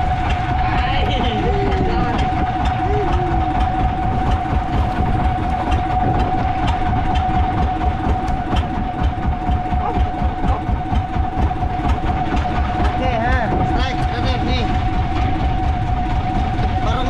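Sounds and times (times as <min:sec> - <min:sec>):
boat engine pulsing and whining: 0:00.0 - 0:17.0.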